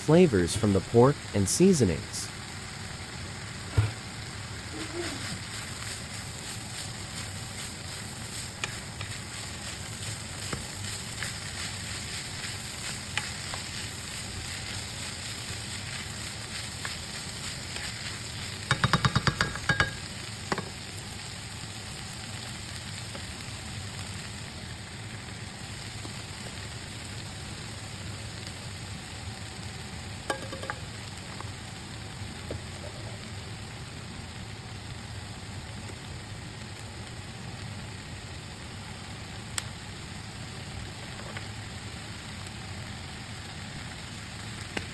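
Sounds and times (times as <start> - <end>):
food sizzling in a pan: 0.2 - 44.9.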